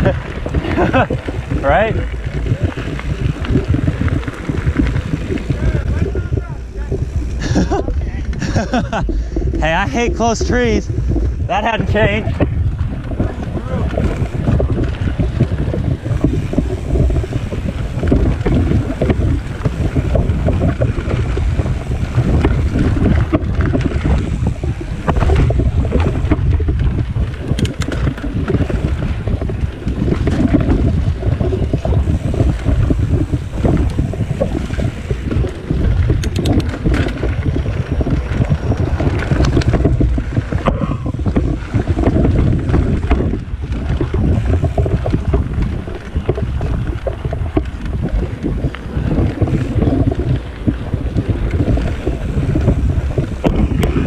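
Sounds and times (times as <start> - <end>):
tyres rolling over dirt: 0.0 - 54.0
wind buffeting microphone: 0.0 - 54.0.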